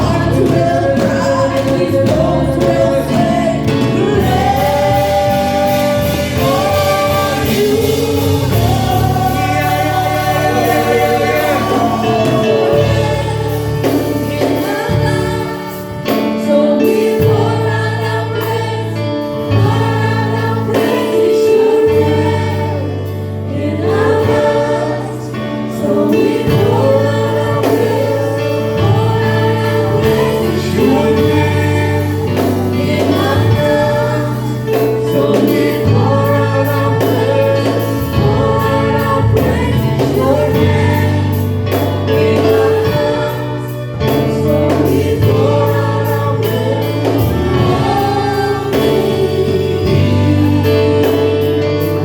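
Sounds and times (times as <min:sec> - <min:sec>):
gospel choir singing: 0:00.0 - 0:52.0
instrumental backing with bass: 0:00.0 - 0:52.0.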